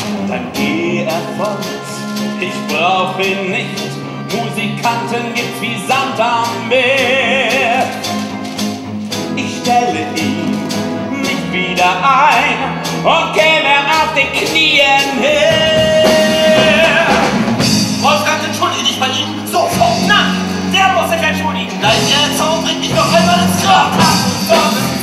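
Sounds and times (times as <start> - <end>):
man singing with vibrato: 0.0 - 8.3, 9.3 - 25.0
orchestra playing: 0.0 - 25.0.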